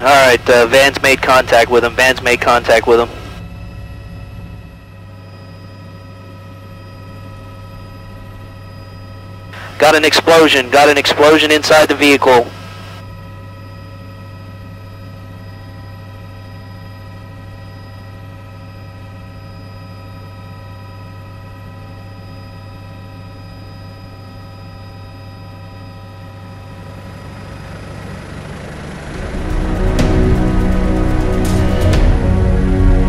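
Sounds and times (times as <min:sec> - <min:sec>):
aircraft cabin drone: 0:00.0 - 0:33.0
steady whining tones: 0:00.0 - 0:33.0.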